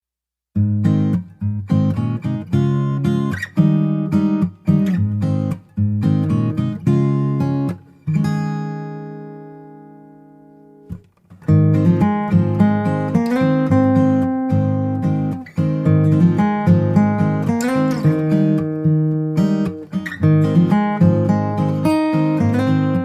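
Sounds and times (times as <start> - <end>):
strummed acoustic guitar: 0.6 - 23.0.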